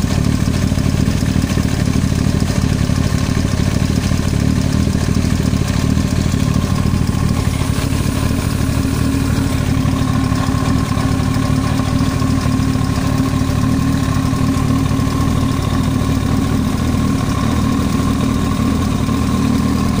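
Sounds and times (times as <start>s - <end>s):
engine knocking: 0.0s - 20.0s
motorcycle engine idling: 0.0s - 20.0s.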